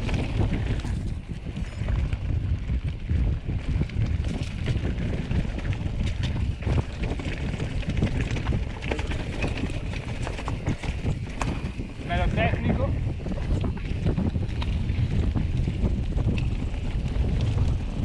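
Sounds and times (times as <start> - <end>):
bike rattling and knocking: 0.0 - 18.0
wind buffeting microphone: 0.0 - 18.0.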